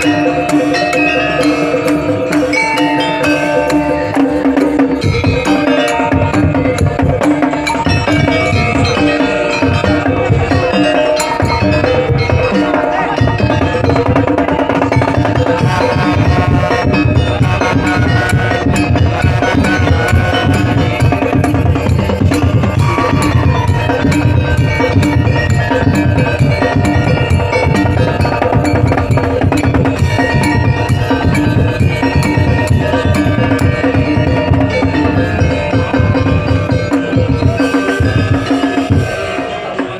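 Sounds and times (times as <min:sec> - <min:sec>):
percussion ensemble drumming: 0:00.0 - 0:39.9
sustained melody: 0:00.0 - 0:39.9.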